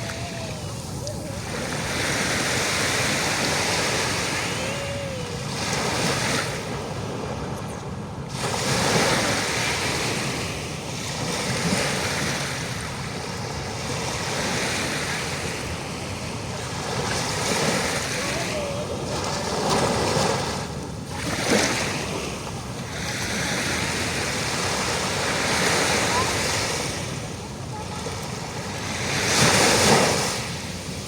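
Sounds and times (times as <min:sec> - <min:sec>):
sea waves washing on shore: 0:00.0 - 0:31.0.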